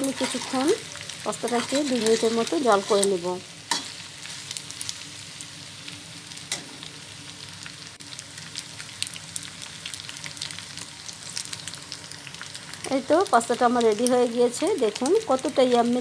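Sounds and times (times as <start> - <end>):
pasta sizzling in a pan: 0.0 - 16.0.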